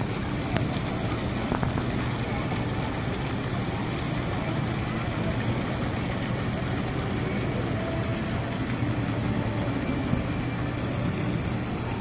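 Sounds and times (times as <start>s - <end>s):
fountain water splashing: 0.0s - 12.0s
low steady hum: 0.0s - 12.0s.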